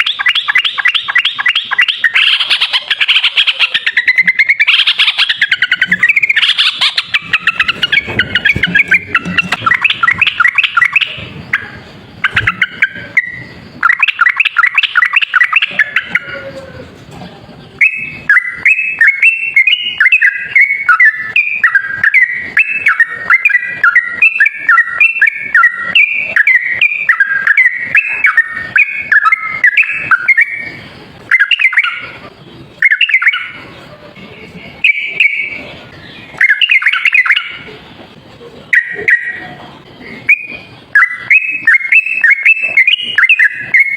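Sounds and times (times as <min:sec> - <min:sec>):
bulbul singing: 0:00.0 - 0:37.8, 0:38.6 - 0:43.9.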